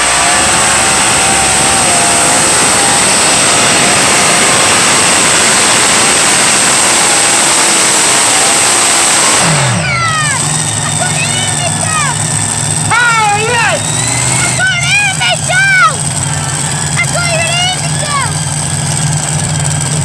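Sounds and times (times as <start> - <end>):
tractor engine roaring: 0.0 - 20.0.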